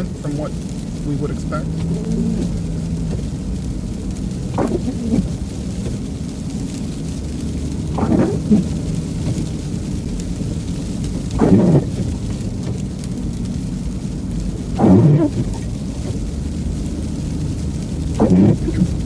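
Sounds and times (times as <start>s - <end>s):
freezing rain on windshield: 0.0s - 19.0s
truck engine and tyres rumbling: 0.0s - 19.0s
windshield wipers scraping: 0.0s - 19.0s.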